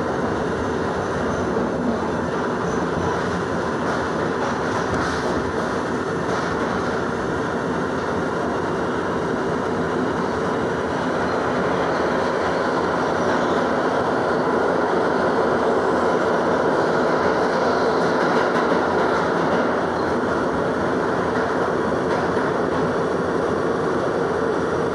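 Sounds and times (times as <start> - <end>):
subway train rumbling: 0.0 - 24.9.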